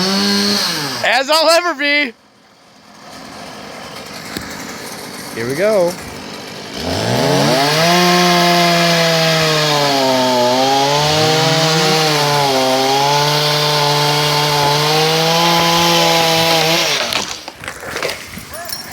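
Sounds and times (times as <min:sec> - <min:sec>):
chainsaw cutting branch: 0:00.0 - 0:01.5, 0:02.8 - 0:18.2.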